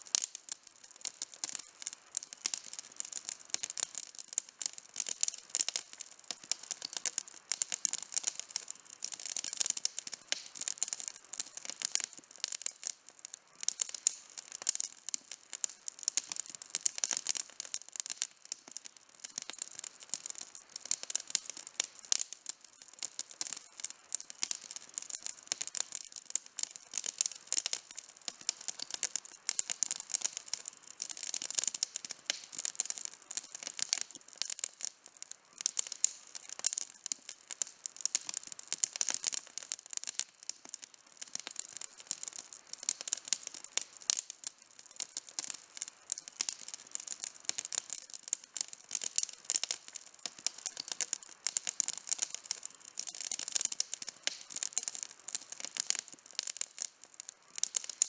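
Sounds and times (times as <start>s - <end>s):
campfire wood crackling and popping: 0.0s - 58.0s
faint fire hiss: 0.0s - 58.0s.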